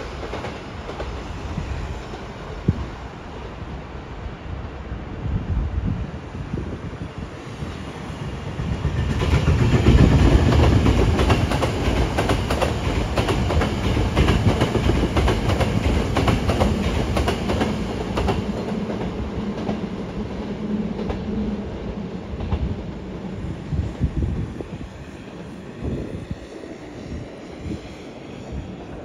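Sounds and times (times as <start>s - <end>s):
electric train rumbling past: 0.0s - 29.0s.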